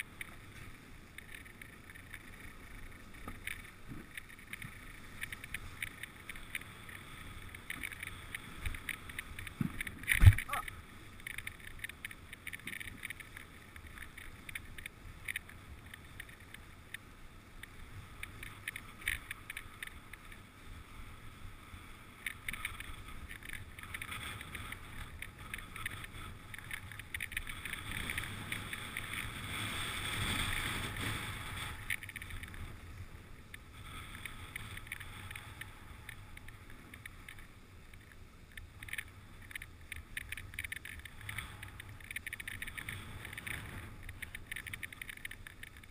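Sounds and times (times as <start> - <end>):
small clicks and rattles: 0.0 - 20.7, 21.7 - 45.9
sled runners sliding over snow: 0.0 - 45.9.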